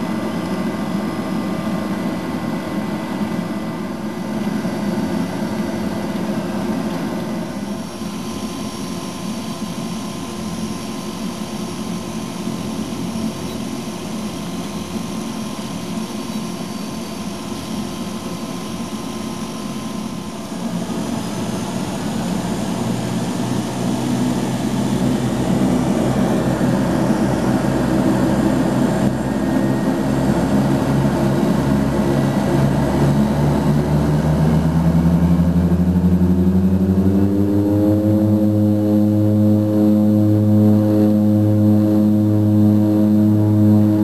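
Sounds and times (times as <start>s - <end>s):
turboprop engines drone: 0.0s - 44.0s.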